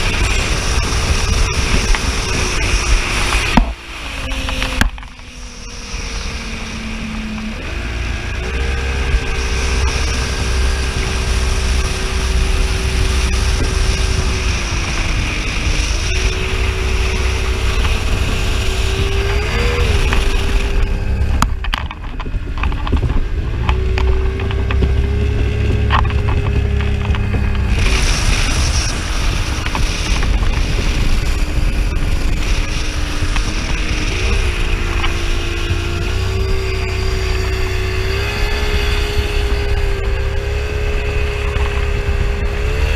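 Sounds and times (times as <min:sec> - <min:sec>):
speedboat engine running: 0:00.0 - 0:42.9
wind rumble on microphone: 0:00.0 - 0:42.9.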